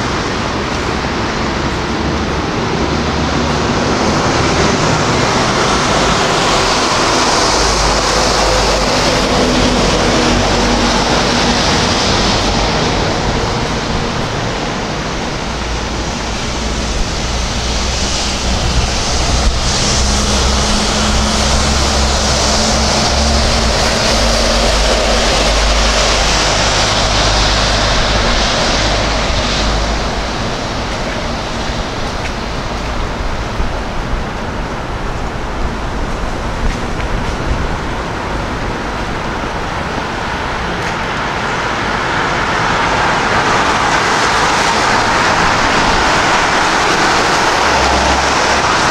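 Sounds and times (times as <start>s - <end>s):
tyres and engines rushing: 0.0s - 48.9s
vehicles rumbling past: 0.0s - 48.9s.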